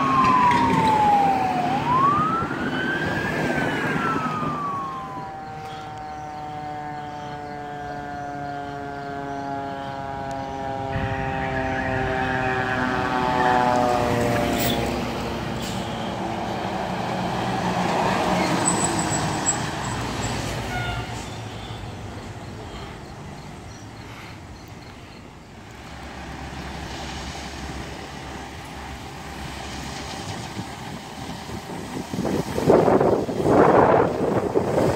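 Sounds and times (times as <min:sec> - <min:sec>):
fire truck siren: 0:00.0 - 0:23.0, 0:23.6 - 0:34.9
truck engine and tyres rumbling: 0:00.0 - 0:34.9.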